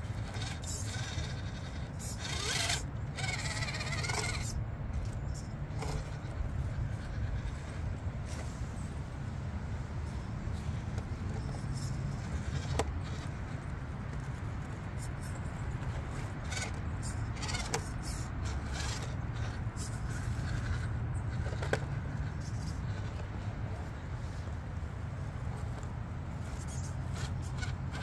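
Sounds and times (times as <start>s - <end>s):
small electric motor running: 0.0s - 7.9s, 10.5s - 24.5s, 26.3s - 28.0s.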